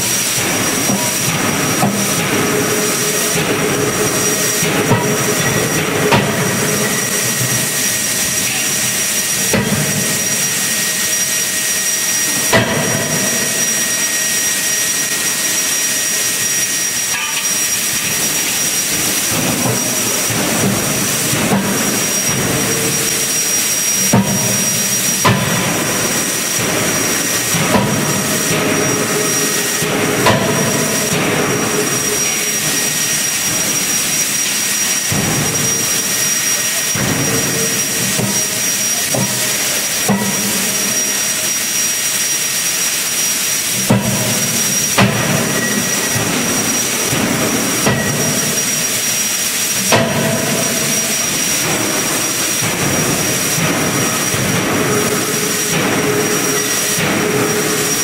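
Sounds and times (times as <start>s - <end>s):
forging hammer blows: 0.0s - 58.0s
loud machine noise: 0.0s - 58.0s
thin high whine: 0.0s - 58.0s.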